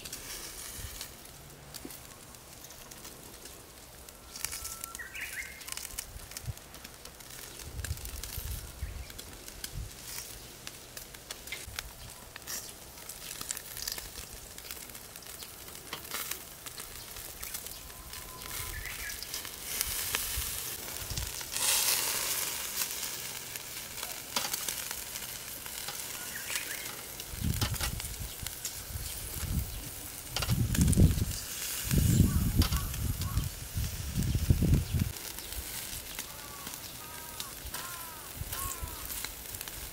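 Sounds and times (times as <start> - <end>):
meat sizzling on a grill: 0.0 - 39.9.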